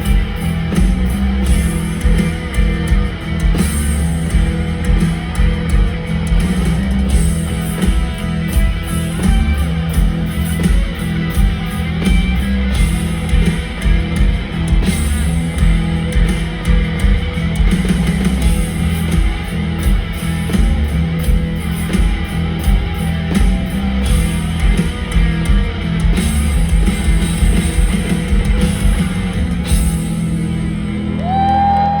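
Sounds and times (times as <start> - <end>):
bass guitar: 0.0 - 32.0
drum kit: 0.0 - 32.0
electric guitars: 0.0 - 32.0.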